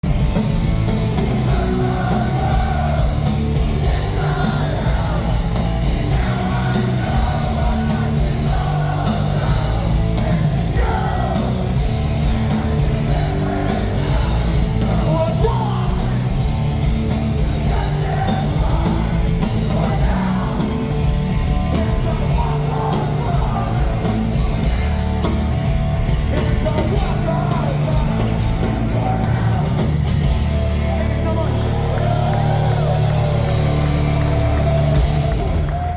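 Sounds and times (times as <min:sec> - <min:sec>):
punk band playing live: 0:00.0 - 0:35.9
shouted and sung vocals: 0:01.0 - 0:16.5, 0:17.3 - 0:25.1, 0:26.2 - 0:30.1, 0:30.9 - 0:35.9.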